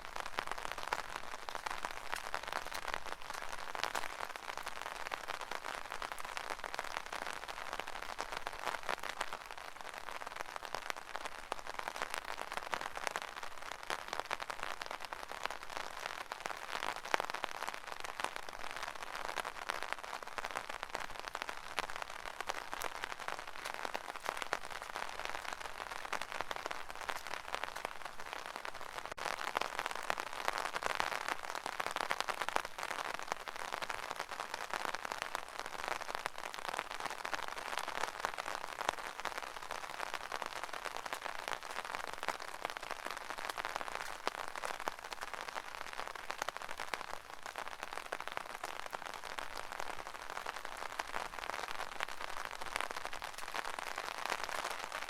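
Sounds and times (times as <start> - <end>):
rain pattering on an umbrella: 0.0 - 55.0.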